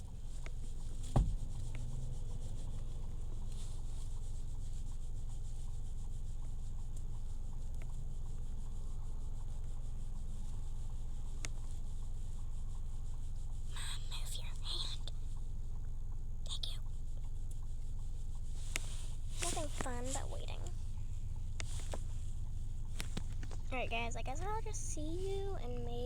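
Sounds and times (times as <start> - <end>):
car road rumble from inside: 0.0 - 26.0.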